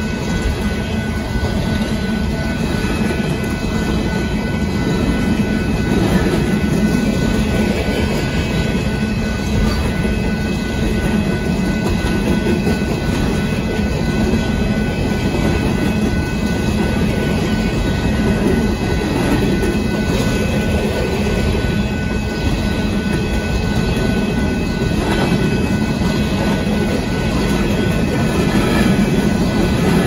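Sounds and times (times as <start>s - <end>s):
train cars rumbling on rails: 0.0s - 30.0s.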